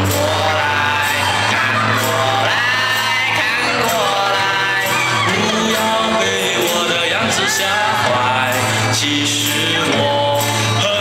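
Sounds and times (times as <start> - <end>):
pop song with sung vocal: 0.0 - 11.0.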